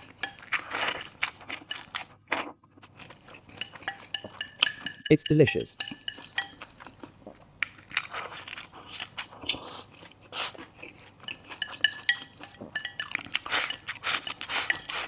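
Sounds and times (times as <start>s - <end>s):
chewing and crunching food: 0.0s - 5.2s, 5.8s - 15.0s
utensils clinking on bowl: 0.0s - 9.3s, 9.9s - 15.0s.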